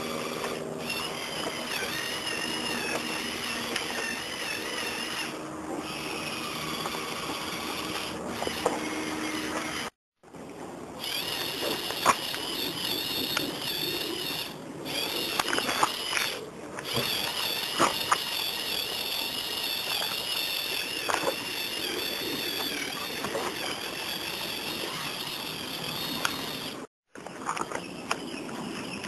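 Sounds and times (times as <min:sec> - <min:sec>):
toy truck motors whining: 0:00.0 - 0:10.0, 0:11.0 - 0:26.9.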